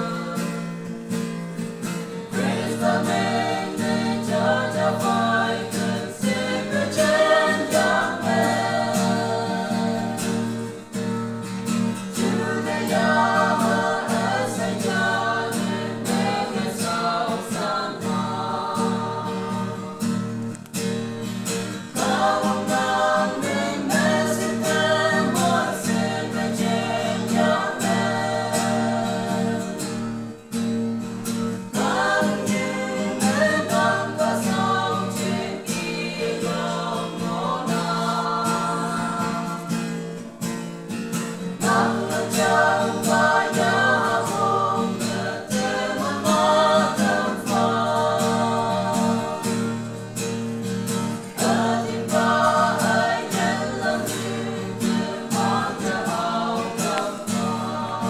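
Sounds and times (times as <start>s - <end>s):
group singing gospel song: 0.0s - 58.0s
strummed acoustic guitar: 0.0s - 58.0s.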